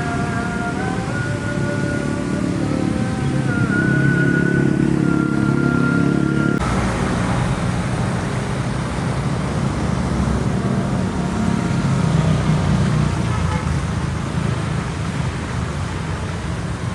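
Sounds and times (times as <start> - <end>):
road traffic: 0.0 - 16.9.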